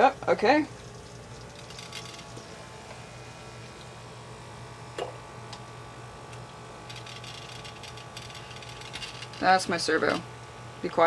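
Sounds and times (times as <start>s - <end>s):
electric pump humming: 0.0s - 11.0s.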